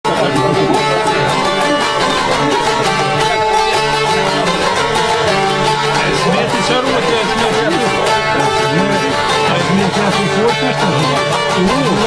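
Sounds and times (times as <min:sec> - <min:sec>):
plucked lutes playing folk tune: 0:00.0 - 0:12.0.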